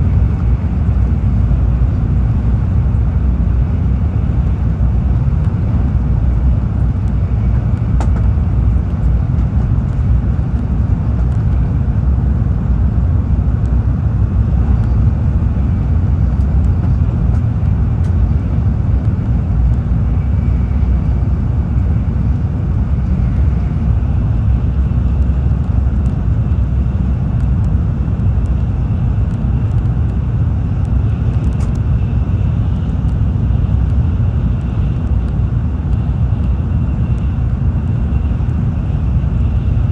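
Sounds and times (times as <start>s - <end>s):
train running rumble inside cabin: 0.0s - 39.9s.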